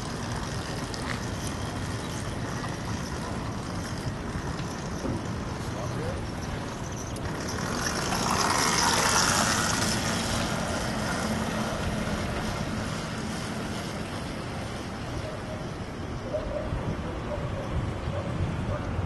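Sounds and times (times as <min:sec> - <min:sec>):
electric motorcycle passing: 0:00.0 - 0:19.0.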